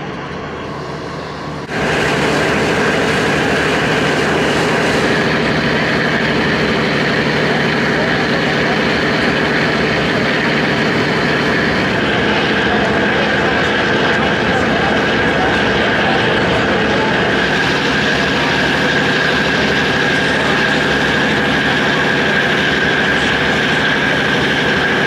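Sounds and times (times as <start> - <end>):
ferry engine droning: 0.0 - 25.0
water churning: 0.7 - 25.0.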